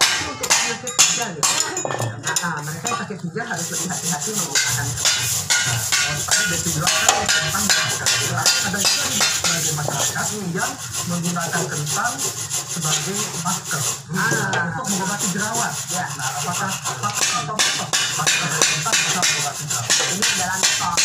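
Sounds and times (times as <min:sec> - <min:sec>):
scraper blade scraping metal: 0:02.4 - 0:21.0.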